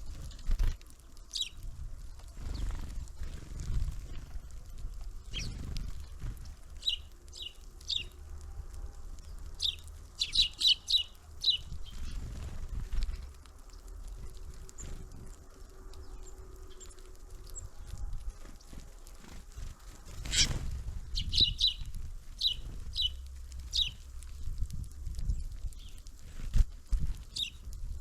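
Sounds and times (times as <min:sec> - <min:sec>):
low rumble: 0:00.0 - 0:28.0
small birds chirping: 0:00.0 - 0:28.0.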